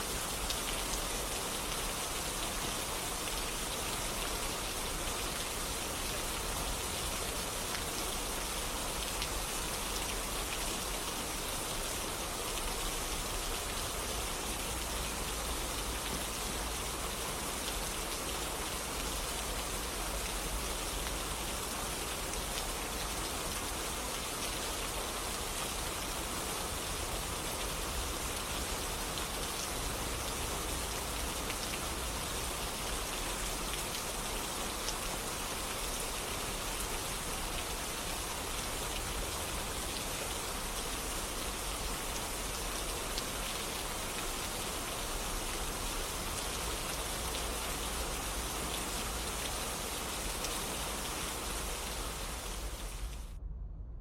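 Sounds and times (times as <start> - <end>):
steady rain falling: 0.0 - 53.4.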